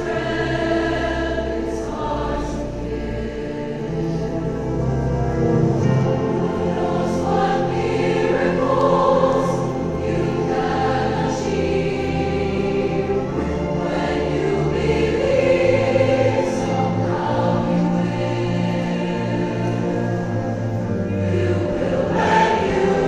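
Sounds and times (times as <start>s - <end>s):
large choir singing: 0.0s - 23.0s
orchestral and wind-band accompaniment: 0.0s - 23.0s.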